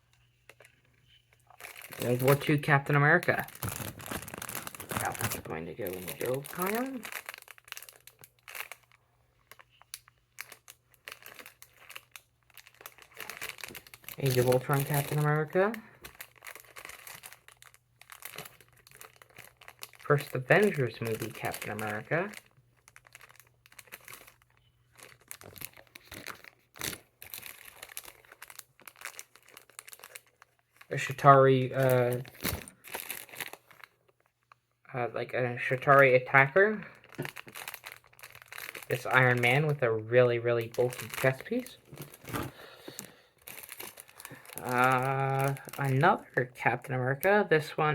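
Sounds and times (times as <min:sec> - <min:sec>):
plastic packets crinkling: 0:00.3 - 0:34.7, 0:35.6 - 0:47.7.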